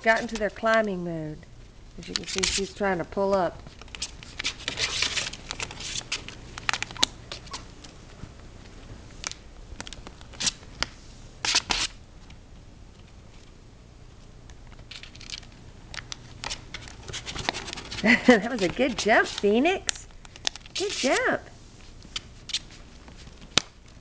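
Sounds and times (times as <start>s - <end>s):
puppies scratching and rustling: 1.9s - 11.9s, 12.9s - 19.6s, 20.3s - 24.0s.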